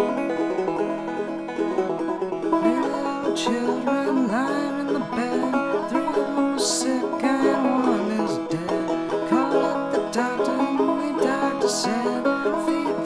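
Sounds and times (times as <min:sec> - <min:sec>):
plucked banjo with bending notes: 0:00.0 - 0:13.0.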